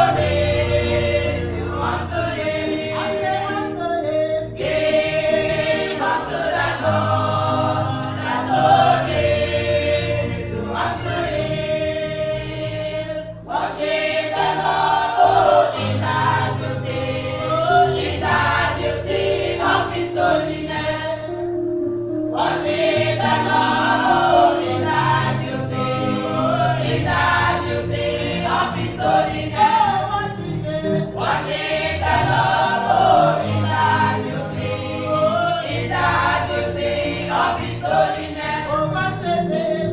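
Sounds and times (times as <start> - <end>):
choir singing gospel song: 0.0 - 39.9
instrumental backing with bass: 0.0 - 39.9.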